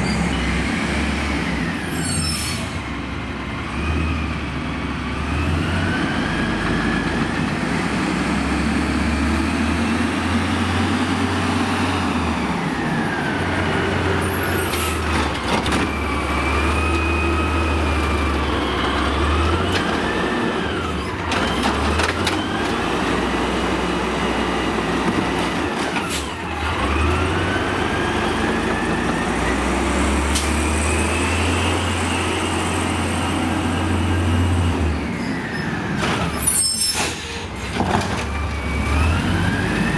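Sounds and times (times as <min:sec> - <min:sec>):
garbage truck diesel engine revving: 0:00.0 - 0:36.4, 0:37.0 - 0:39.9.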